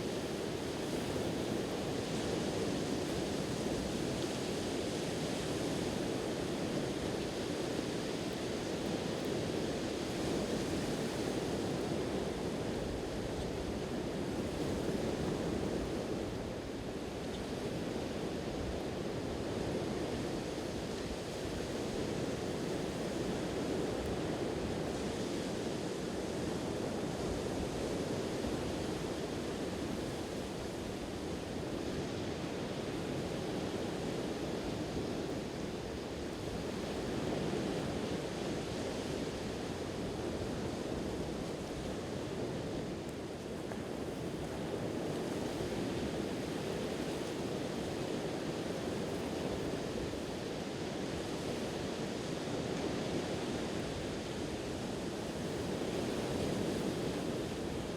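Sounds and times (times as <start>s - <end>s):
wind: 0.0s - 57.9s.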